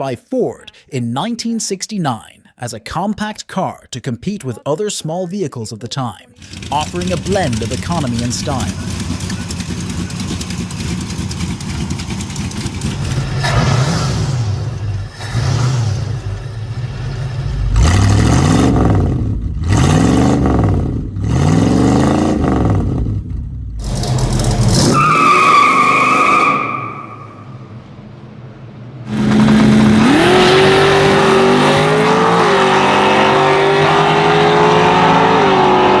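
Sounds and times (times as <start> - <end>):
car engine revving: 6.4 - 36.0.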